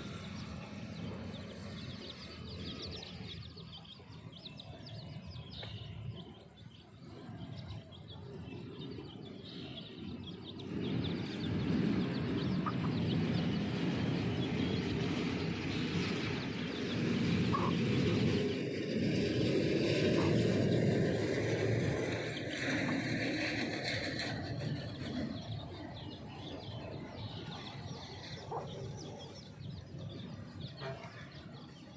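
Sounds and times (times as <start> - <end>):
steady rushing noise: 0.0 - 31.9
chicks peeping: 0.2 - 14.8, 16.6 - 17.8, 20.1 - 20.4, 22.1 - 31.9.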